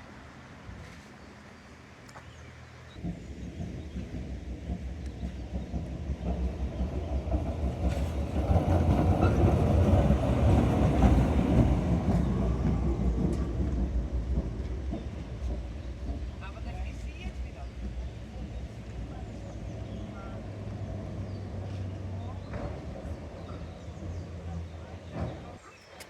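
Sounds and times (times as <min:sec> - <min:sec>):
tram rumbling on track: 0:00.0 - 0:26.0.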